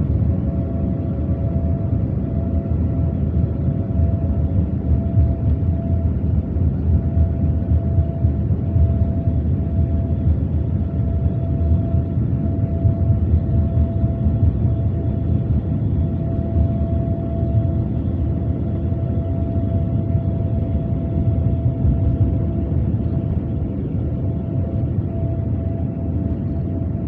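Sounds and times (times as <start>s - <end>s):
faint engine whine: 0.0s - 27.0s
jet airliner engines rumbling: 0.0s - 27.0s.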